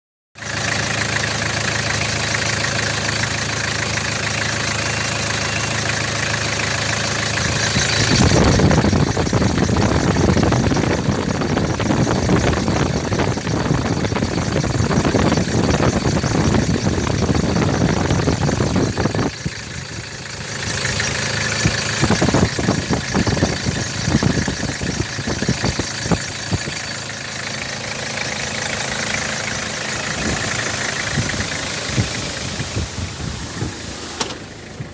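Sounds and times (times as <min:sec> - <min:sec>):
engine idling: 0:00.4 - 0:34.9.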